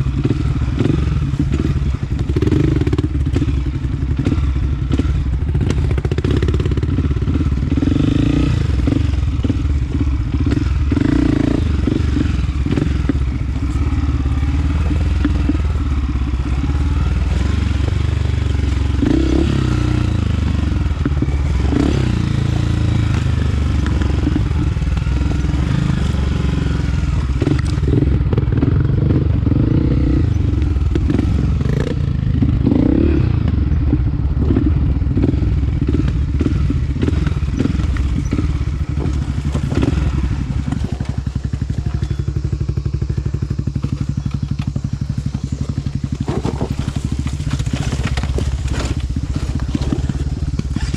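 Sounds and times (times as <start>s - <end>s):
dirt bike engine revving: 0.0s - 50.9s
knocks and clatter from bike: 0.1s - 20.0s, 27.2s - 50.9s.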